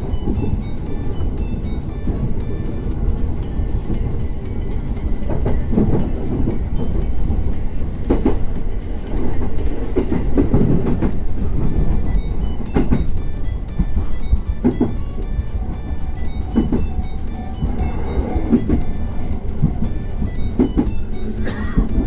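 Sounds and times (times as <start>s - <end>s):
train rumbling on rails: 0.0s - 22.0s
wheels clacking over rail joints: 0.0s - 22.0s.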